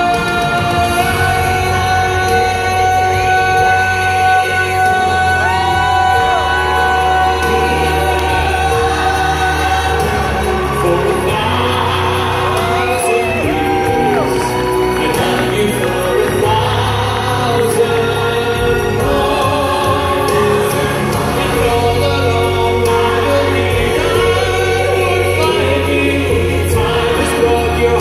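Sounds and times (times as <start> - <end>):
amplified backing music: 0.0 - 28.0
man singing into microphone: 0.0 - 28.0.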